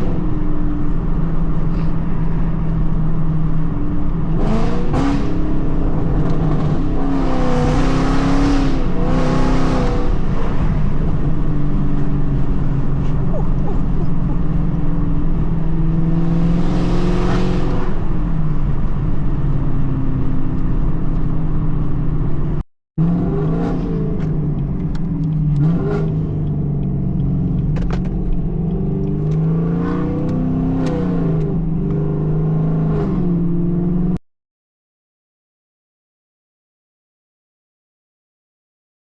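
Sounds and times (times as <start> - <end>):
car engine revving while driving: 0.0 - 34.2.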